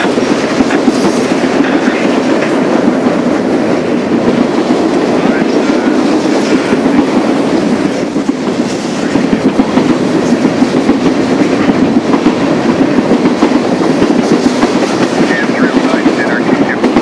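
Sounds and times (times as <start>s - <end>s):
sharp rail clicks: 0.0s - 17.0s
train wheels rumbling on rail: 0.0s - 17.0s.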